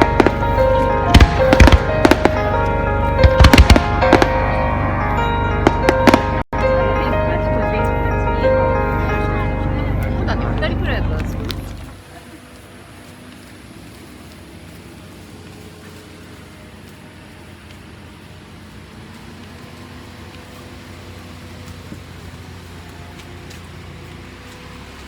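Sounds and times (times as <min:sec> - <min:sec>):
road traffic hum: 0:00.0 - 0:25.0.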